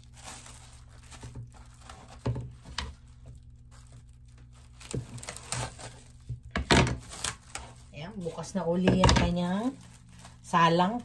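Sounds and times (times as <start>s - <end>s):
plastic cling wrap crinkling: 0.0s - 11.0s.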